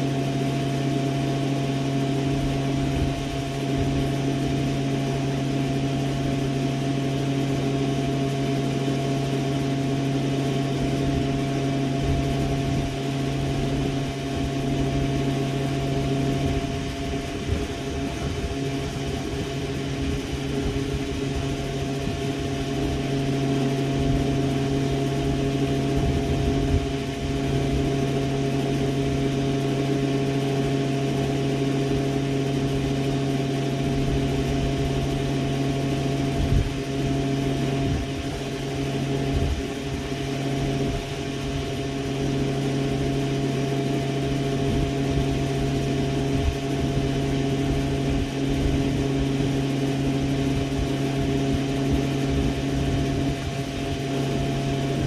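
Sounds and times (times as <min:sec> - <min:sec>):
machine humming steadily: 0:00.0 - 0:55.0.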